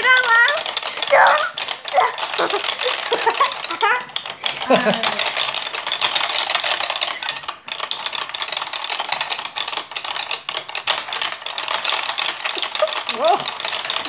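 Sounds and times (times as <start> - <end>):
plastic buttons clicking and rattling: 0.0 - 14.0.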